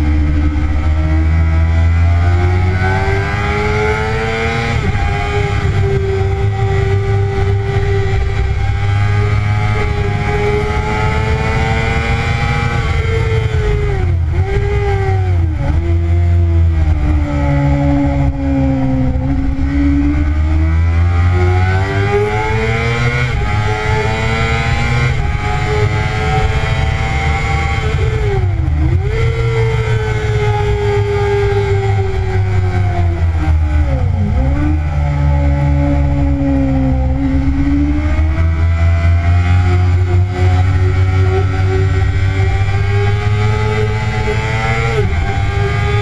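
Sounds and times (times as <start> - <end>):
motorcycle engine at high revs: 0.0 - 46.0
wind rushing over microphone: 0.0 - 46.0.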